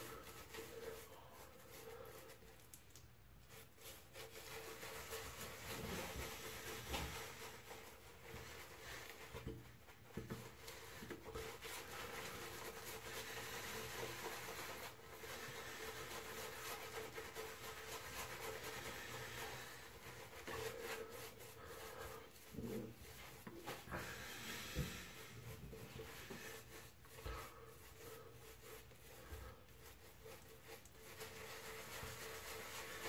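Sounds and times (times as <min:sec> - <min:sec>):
wet shaving brush scrubbing: 0:00.0 - 0:33.0.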